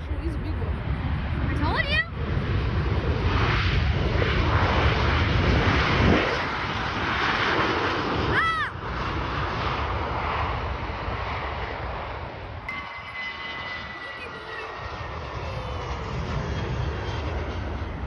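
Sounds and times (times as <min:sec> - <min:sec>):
jet engines passing close: 0:00.0 - 0:18.0.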